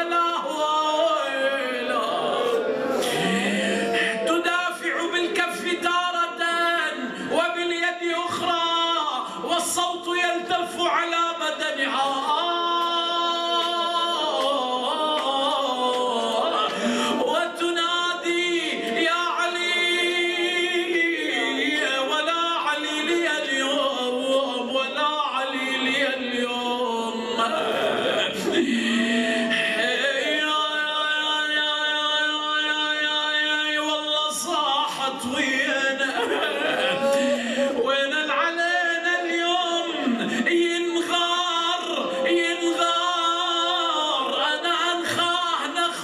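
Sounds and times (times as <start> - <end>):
man chanting a lament: 0.0 - 46.0.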